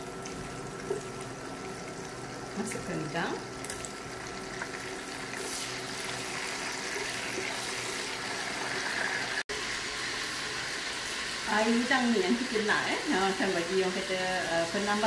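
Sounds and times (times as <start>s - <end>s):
prawns sizzling in hot oil: 0.0s - 15.0s.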